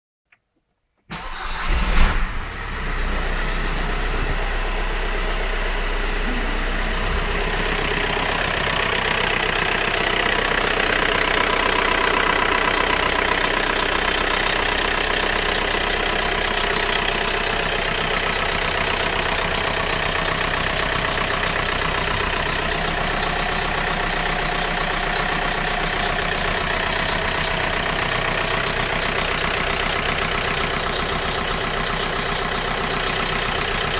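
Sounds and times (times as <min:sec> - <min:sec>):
engine squeak: 0:01.1 - 0:02.0, 0:07.0 - 0:33.9
diesel engine starting and idling: 0:01.1 - 0:33.9.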